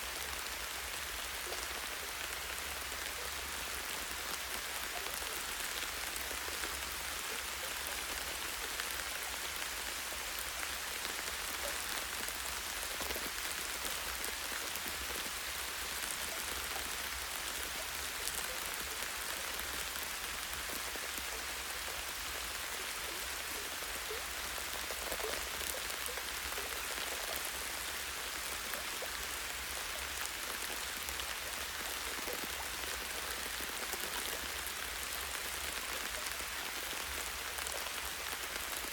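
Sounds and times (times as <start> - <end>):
light rain pattering on leaves: 0.0 - 38.9.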